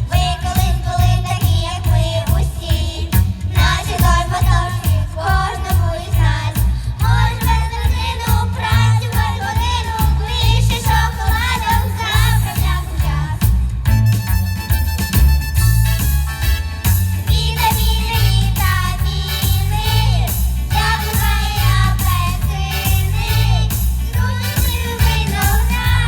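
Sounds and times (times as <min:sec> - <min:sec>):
children singing pop song: 0:00.0 - 0:13.8, 0:17.1 - 0:26.0
music with steady beat: 0:00.0 - 0:26.0.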